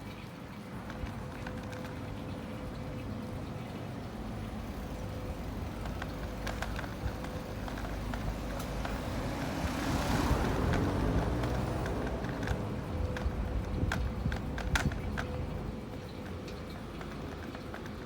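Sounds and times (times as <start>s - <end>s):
road vehicle passing: 0.1s - 18.0s.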